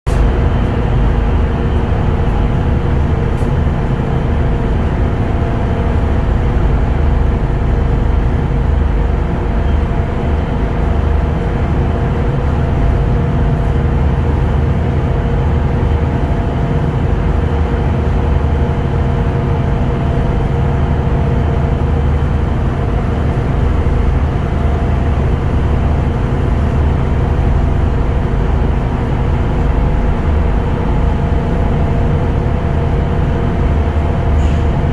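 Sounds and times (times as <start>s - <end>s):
vehicle engine and road rumble: 0.0s - 34.9s
constant hum: 0.1s - 34.9s.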